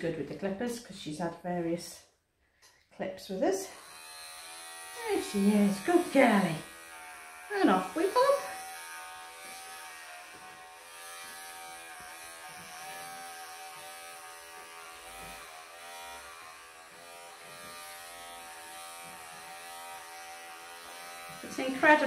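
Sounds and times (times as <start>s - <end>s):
electric clippers buzzing: 3.6s - 22.0s.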